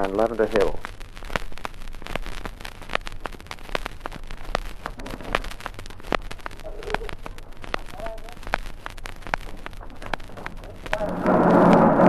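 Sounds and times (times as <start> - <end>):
low hum: 0.0 - 12.0
record surface crackle and clicks: 0.0 - 12.0.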